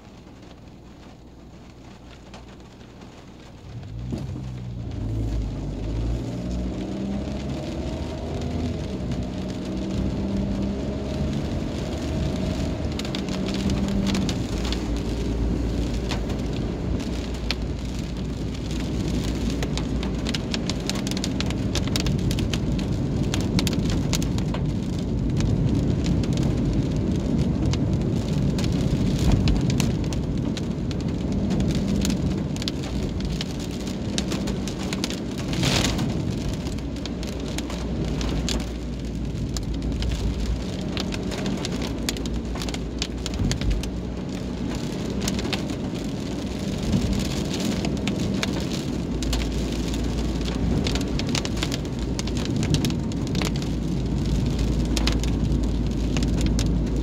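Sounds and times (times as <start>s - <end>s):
raindrops ticking on car: 0.0s - 57.0s
tyres rumbling on wet road: 0.0s - 57.0s.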